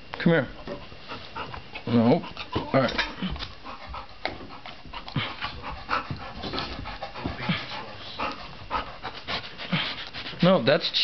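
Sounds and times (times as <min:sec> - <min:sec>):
dog panting: 0:00.6 - 0:10.6.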